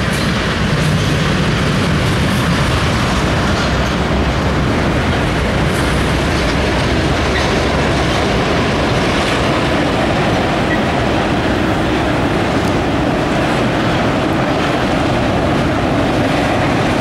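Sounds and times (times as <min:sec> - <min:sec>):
diesel locomotive passing: 0:00.0 - 0:17.0
train wheels rumbling on rail: 0:00.0 - 0:17.0.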